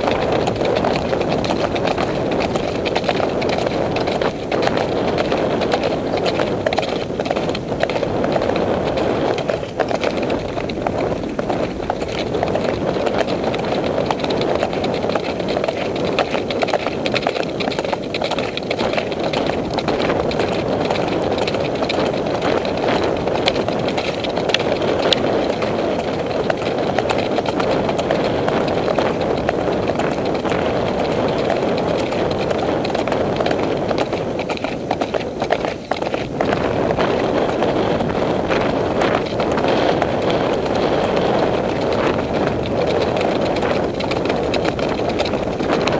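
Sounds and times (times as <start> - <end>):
hooves on dirt track: 0.0 - 45.9
steady rushing noise: 0.0 - 45.9.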